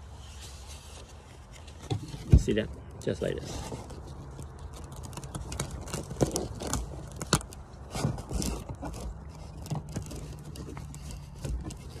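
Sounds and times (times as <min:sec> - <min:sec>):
rope scraping and rustling: 0:00.0 - 0:12.0.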